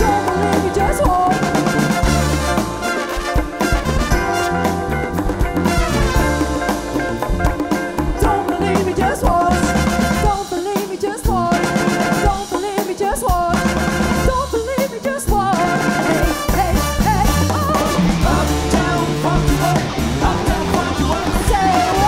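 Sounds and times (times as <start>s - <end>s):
drum kit and congas beat: 0.0s - 22.0s
live band playing: 0.0s - 22.0s.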